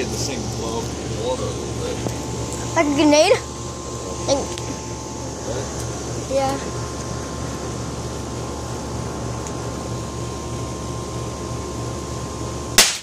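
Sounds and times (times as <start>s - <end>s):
pulsing mechanical hum: 0.0s - 13.0s
thin steady whine: 0.0s - 13.0s.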